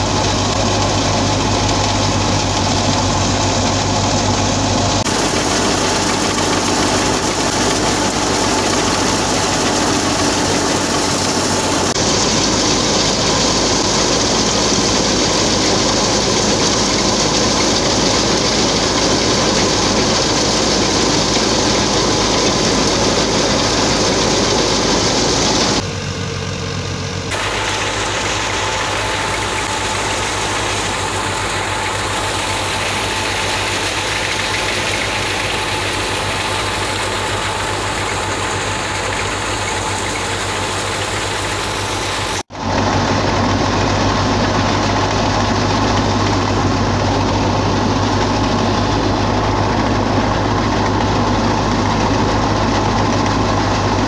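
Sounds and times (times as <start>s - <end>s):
thresher machinery droning: 0.0s - 54.0s.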